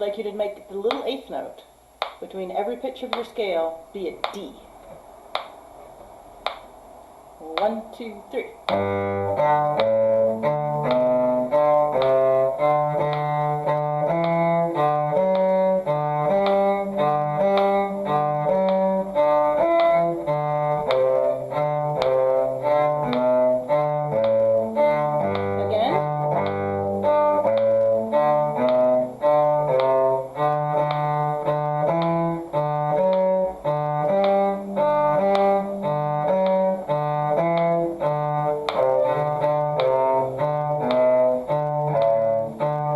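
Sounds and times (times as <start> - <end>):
metronome click: 4.1 - 4.6, 8.6 - 42.9
bowed string instrument scale: 7.5 - 42.9.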